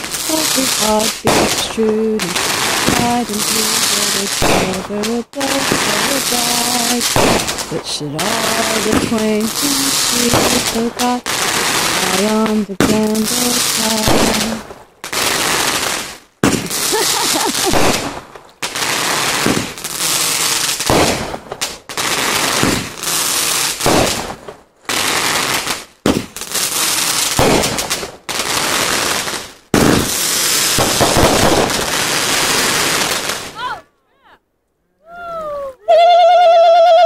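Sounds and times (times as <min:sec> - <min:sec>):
fireworks bursting: 0:00.0 - 0:33.8
fireworks crackling: 0:00.0 - 0:33.9.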